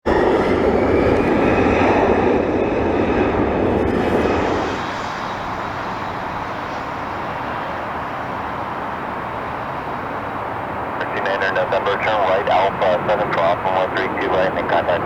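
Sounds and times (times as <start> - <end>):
jet engines roaring with whine: 0.0 - 15.0.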